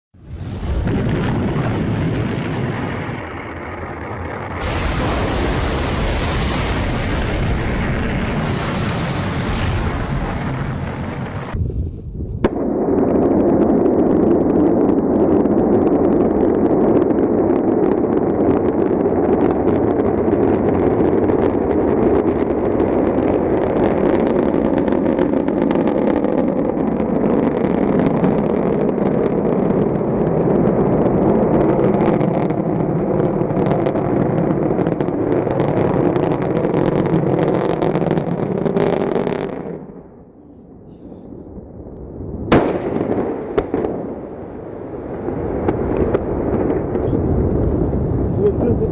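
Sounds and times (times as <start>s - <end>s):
rocket exhaust roar: 0.2s - 48.9s.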